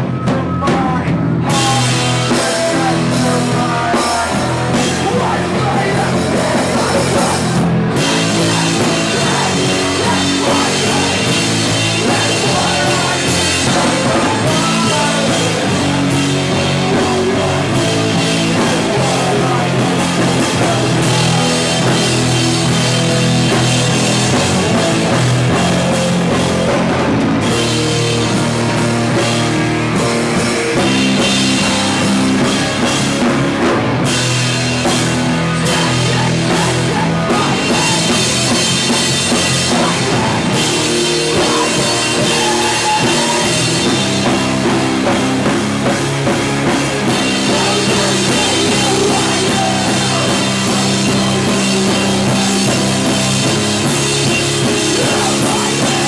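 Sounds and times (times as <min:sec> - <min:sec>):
bass guitar: 0:00.0 - 0:56.0
drum kit with crashing cymbals: 0:00.0 - 0:56.0
electric guitar: 0:00.0 - 0:56.0.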